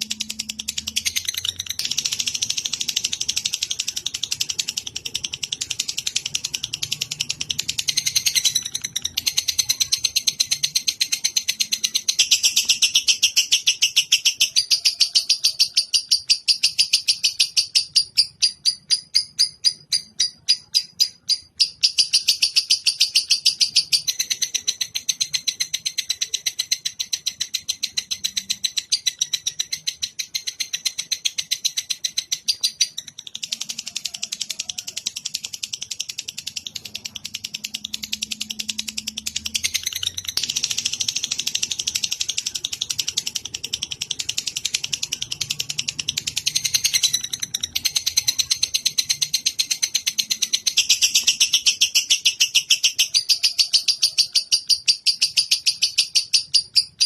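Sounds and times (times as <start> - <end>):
songbird chattering trill: 0.0 - 57.0.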